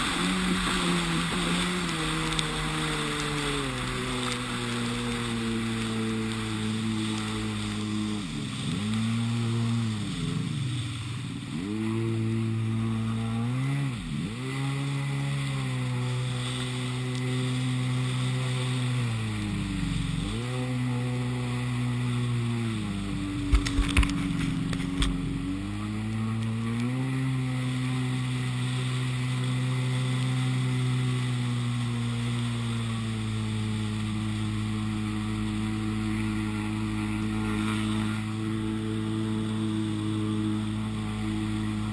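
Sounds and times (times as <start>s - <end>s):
jet ski engine running: 0.0s - 41.9s.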